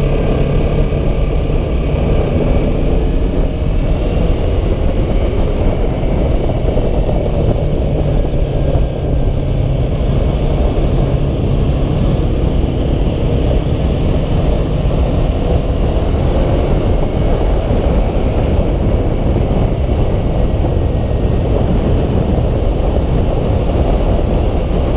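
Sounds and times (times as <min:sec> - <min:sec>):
motorcycle engine cruising: 0:00.0 - 0:24.9
wind rushing over microphone: 0:00.0 - 0:24.9.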